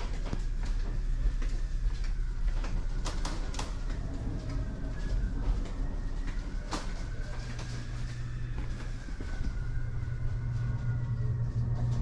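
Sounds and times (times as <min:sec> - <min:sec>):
ship low rumble and hum: 0:00.0 - 0:12.0.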